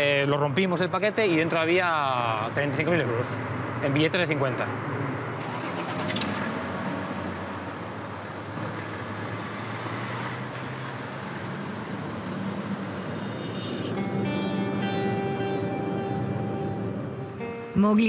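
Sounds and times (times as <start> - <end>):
suv engine hum: 1.4 - 17.8.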